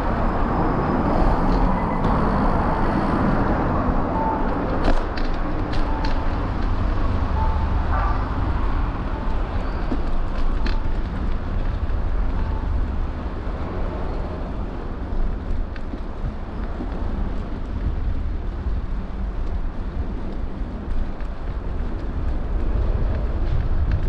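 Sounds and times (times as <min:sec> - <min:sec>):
street traffic: 0:00.0 - 0:24.0
wind rumbling on microphone: 0:00.0 - 0:24.0.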